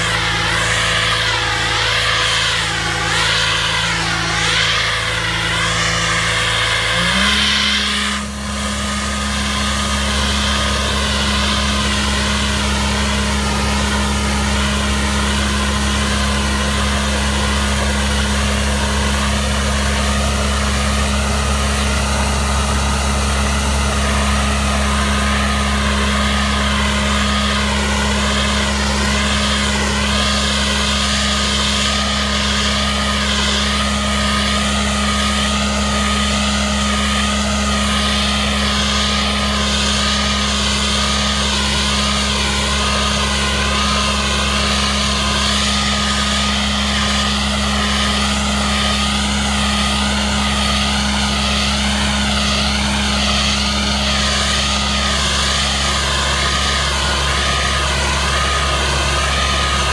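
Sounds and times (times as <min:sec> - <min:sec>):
air hiss: 0:00.0 - 0:59.9
nozzle blasting stone chips: 0:00.0 - 0:59.9
road patcher engine and blower: 0:00.0 - 0:59.9
wavering whine: 0:00.0 - 0:59.9.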